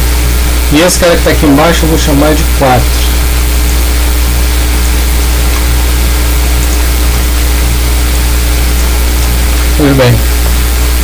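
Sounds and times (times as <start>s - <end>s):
constant hiss: 0.0s - 11.0s
low electrical hum: 0.0s - 11.0s.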